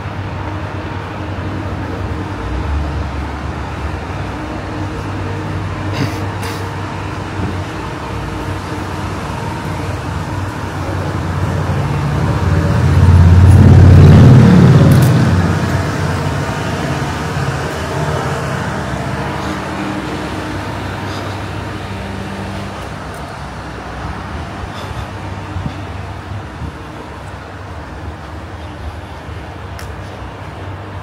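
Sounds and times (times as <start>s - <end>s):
rumble of traffic: 0.0s - 31.0s
vehicle passing close by: 1.2s - 28.2s.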